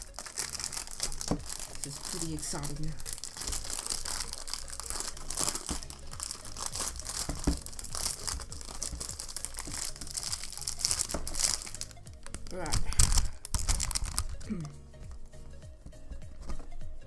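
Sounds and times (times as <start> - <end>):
packaging crinkling and tearing: 0.0 - 15.4.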